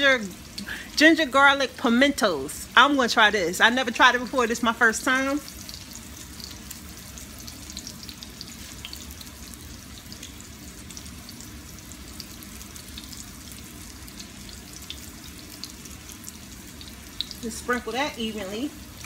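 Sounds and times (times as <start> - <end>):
fish sizzling in frying pan: 0.0 - 19.0.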